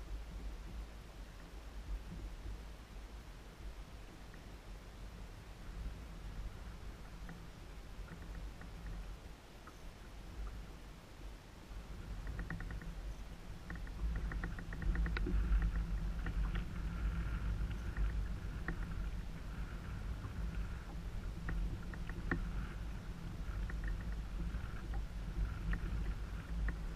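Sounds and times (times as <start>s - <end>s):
boat engine hum and rumble: 0.0s - 26.9s.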